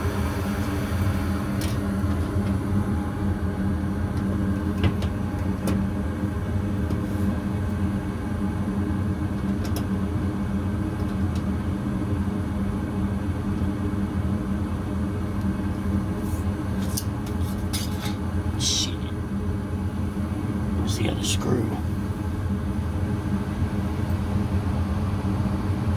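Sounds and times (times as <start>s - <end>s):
gas furnace humming: 0.0s - 25.9s.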